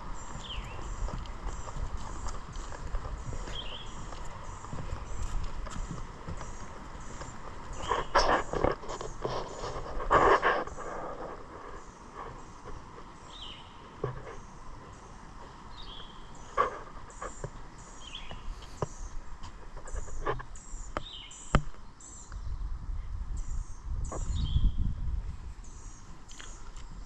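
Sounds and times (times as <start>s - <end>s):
footsteps on a trail: 0.0s - 21.9s
birds chirping: 0.0s - 24.9s, 25.6s - 27.0s.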